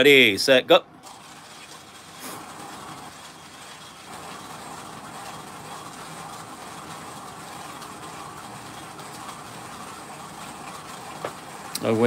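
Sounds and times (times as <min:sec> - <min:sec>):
hand coffee grinder grinding: 0:01.0 - 0:12.0.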